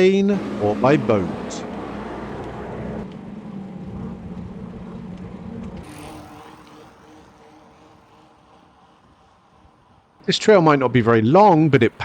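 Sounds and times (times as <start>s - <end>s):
engine drone: 0.0s - 12.0s
faint engine hum: 0.0s - 12.0s.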